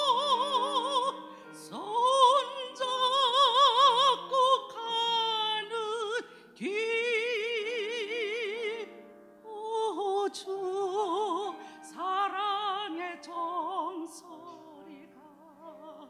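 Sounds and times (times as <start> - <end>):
woman singing operatic hymn: 0.0 - 8.9, 9.5 - 16.0.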